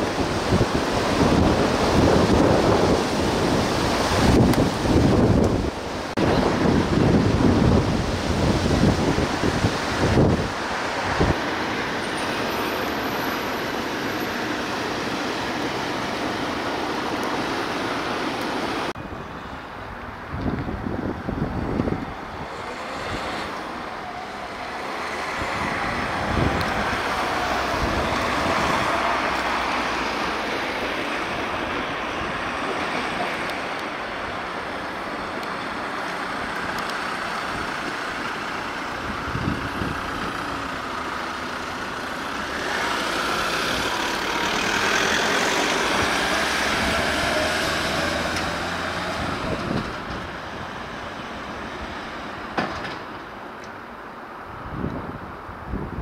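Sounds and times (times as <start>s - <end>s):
heavy vehicles passing: 0.0s - 56.0s.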